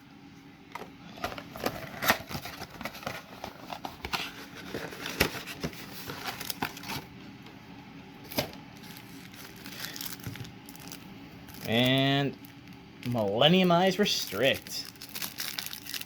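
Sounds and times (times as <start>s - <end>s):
trading cards and foil wrapper rustling: 1.2s - 7.1s, 8.3s - 16.0s.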